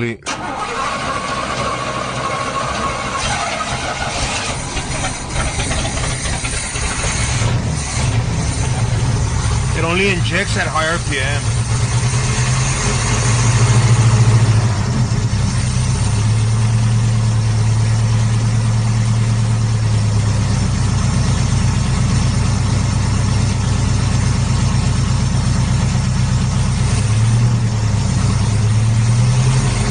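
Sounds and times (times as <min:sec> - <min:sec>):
truck engine idling: 0:00.0 - 0:29.2.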